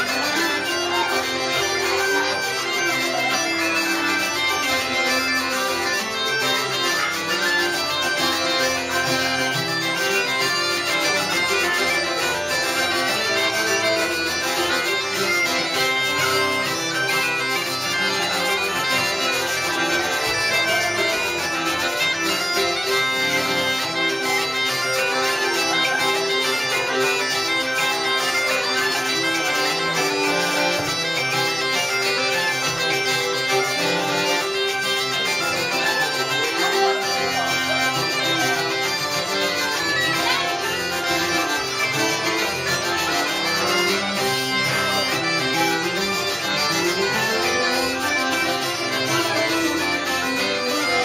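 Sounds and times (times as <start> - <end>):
bagpipes playing a tune: 0.0 - 51.0
live band music: 0.0 - 51.0.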